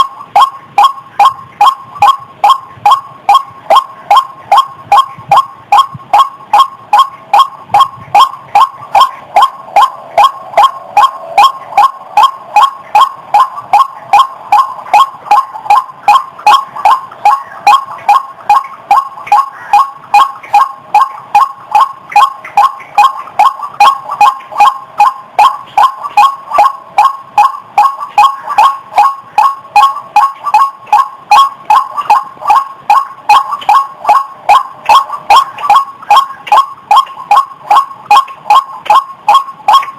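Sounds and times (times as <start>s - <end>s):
bird harsh repeated calls: 0.0s - 39.9s.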